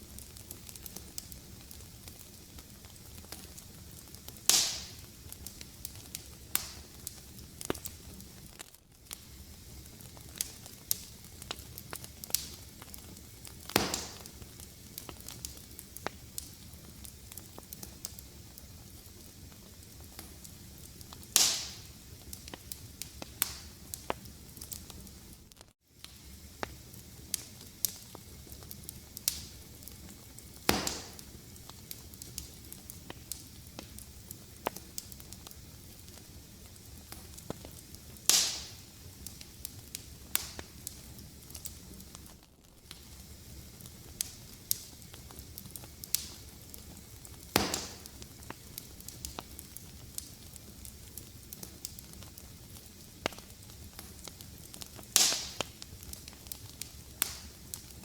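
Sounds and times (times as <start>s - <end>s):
loud fire pops: 0.0s - 25.4s, 26.0s - 58.0s
wood fire crackling: 0.0s - 58.0s.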